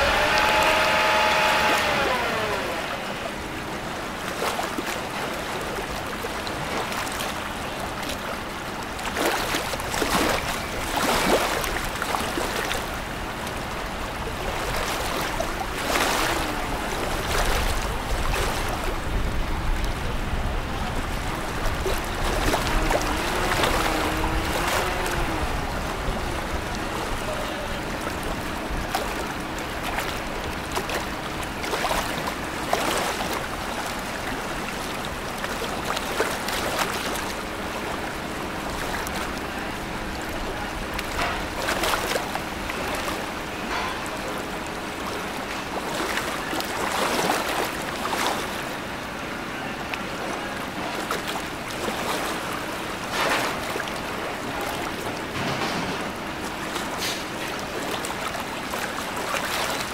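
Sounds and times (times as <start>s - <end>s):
tugboat engine rumble: 0.0s - 59.9s
water: 0.0s - 59.9s
wind: 0.0s - 59.9s.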